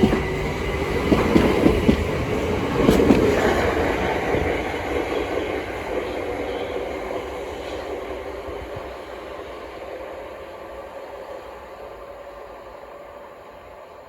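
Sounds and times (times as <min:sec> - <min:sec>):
electric train running: 0:00.0 - 0:13.6.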